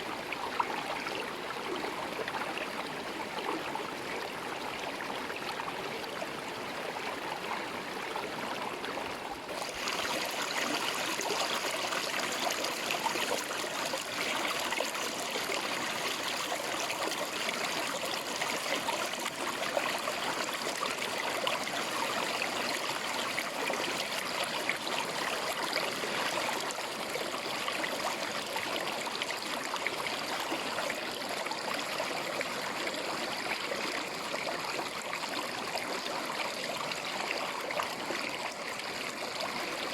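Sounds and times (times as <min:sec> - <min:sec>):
river water flowing: 0:07.1 - 0:39.9.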